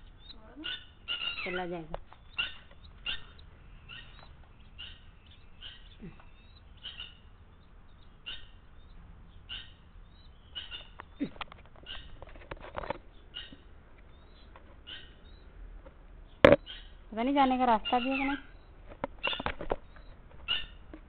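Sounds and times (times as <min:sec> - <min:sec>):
lapwing sharp calls: 0:00.0 - 0:12.2, 0:13.1 - 0:15.5, 0:16.3 - 0:20.9.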